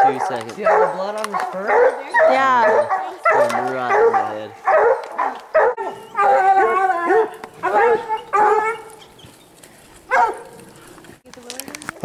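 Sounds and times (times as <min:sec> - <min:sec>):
hounds baying and barking: 0:00.0 - 0:11.2.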